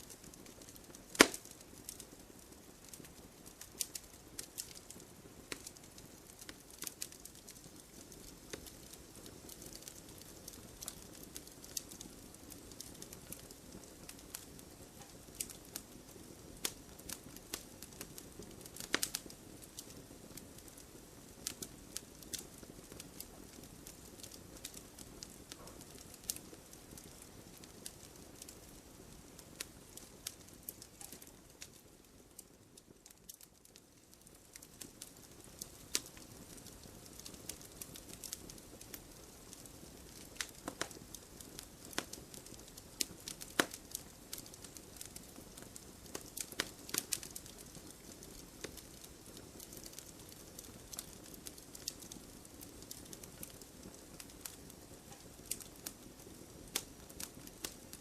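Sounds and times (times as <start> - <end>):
logs crackling and popping: 0.0 - 58.0
soft fire hiss: 0.0 - 58.0.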